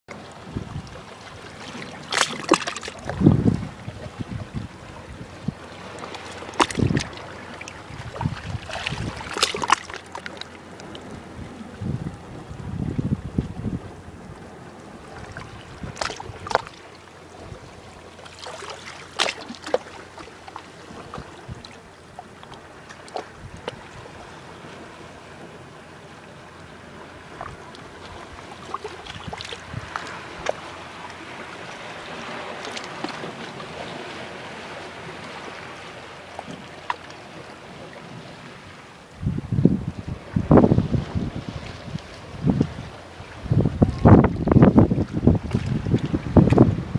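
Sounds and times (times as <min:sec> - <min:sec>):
small water splashes: 0:00.1 - 0:11.8, 0:15.0 - 0:25.0, 0:27.2 - 0:38.8, 0:40.9 - 0:46.6
sea water lapping: 0:00.1 - 0:46.9.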